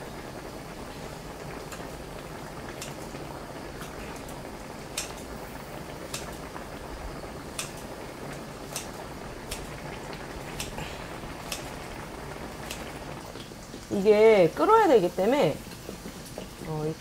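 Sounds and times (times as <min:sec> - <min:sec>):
stew bubbling in a pot: 0:00.0 - 0:17.0.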